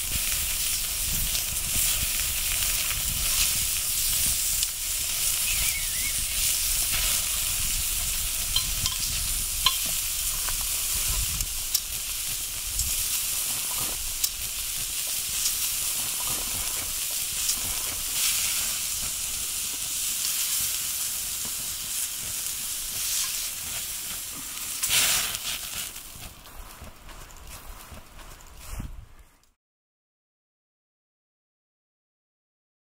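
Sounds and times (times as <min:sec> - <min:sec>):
steaks sizzling on iron plate: 0:00.0 - 0:26.8.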